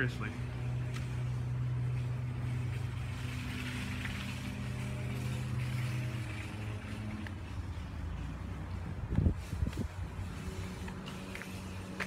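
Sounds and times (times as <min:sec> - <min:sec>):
machine engine humming: 0:00.0 - 0:12.0.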